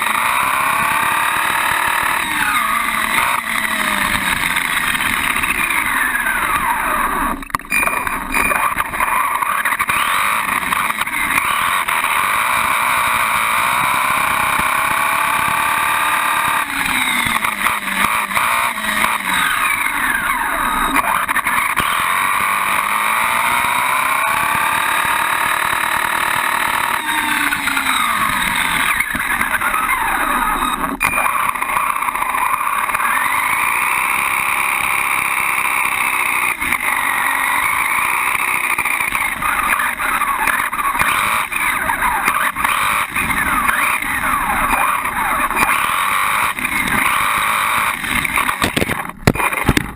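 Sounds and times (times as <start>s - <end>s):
toy car electric motor whining: 0.0s - 49.9s.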